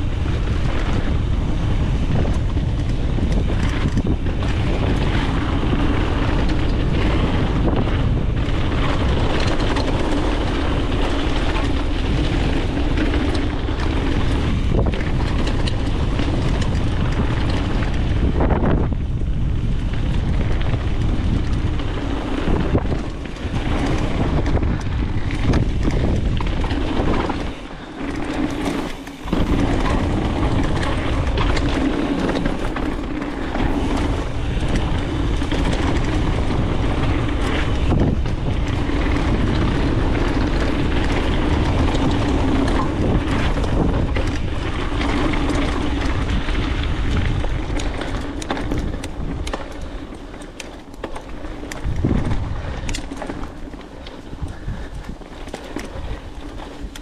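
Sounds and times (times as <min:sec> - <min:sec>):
bike rattling: 0:00.0 - 0:57.0
tyres rumbling over dirt: 0:00.0 - 0:57.0
wind buffeting microphone: 0:00.0 - 0:57.0.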